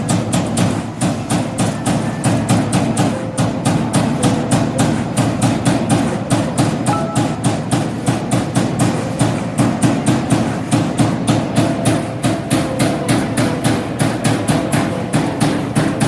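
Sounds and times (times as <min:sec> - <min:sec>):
continuous machine hum: 0:00.0 - 0:16.0.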